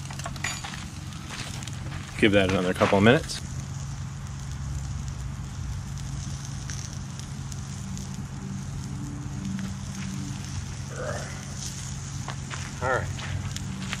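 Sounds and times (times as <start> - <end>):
fire crackling: 0.0 - 14.0
fire hissing: 0.0 - 14.0
low hum: 0.0 - 14.0.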